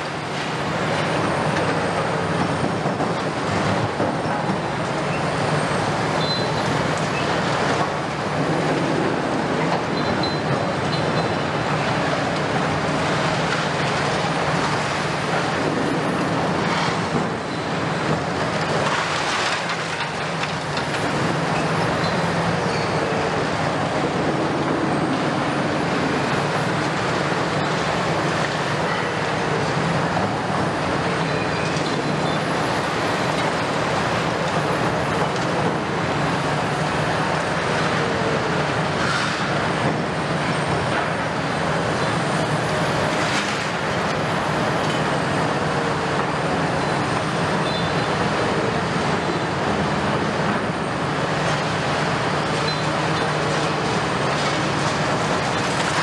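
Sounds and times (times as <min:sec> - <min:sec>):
excavator diesel engines: 0:00.0 - 0:56.0.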